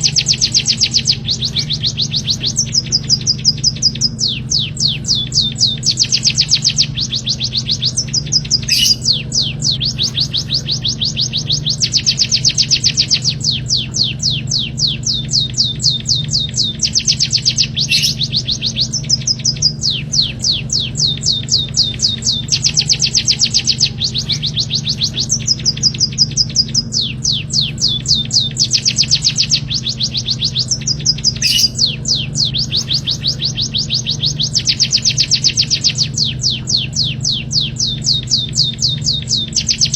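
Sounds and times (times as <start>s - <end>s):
songbird chirping: 0.0s - 39.9s
steady low hum: 0.0s - 39.9s.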